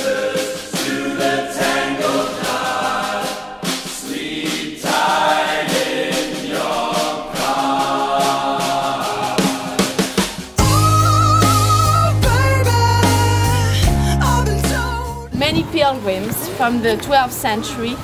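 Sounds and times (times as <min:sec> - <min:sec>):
choir singing held notes: 0:00.0 - 0:15.3.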